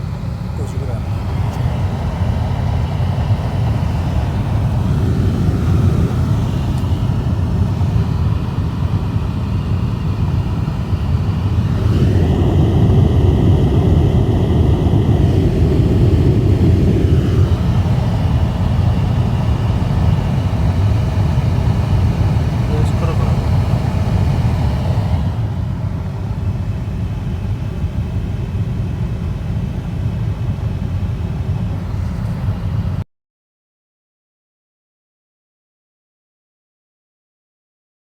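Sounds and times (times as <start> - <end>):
blower fan whirring: 0.0 - 33.0.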